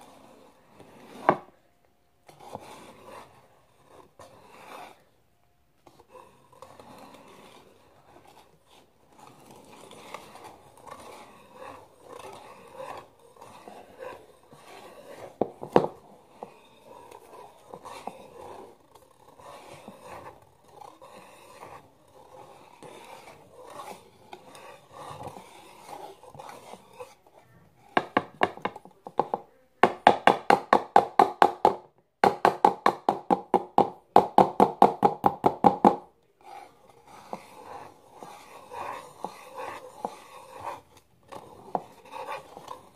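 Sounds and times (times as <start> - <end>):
whisk stirring batter in bowl: 0.0 - 5.2, 5.8 - 42.9.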